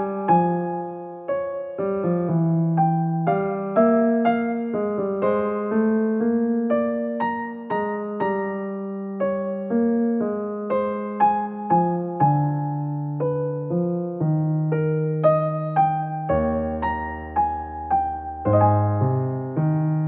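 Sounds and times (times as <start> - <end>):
slow gentle piano melody: 0.0 - 20.0.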